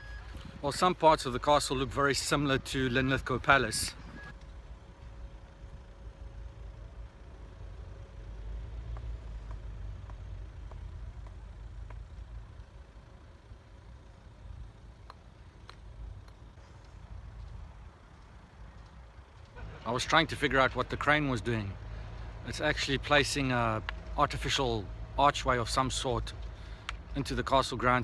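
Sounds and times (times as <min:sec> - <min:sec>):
engine rumbling: 0:00.0 - 0:28.0.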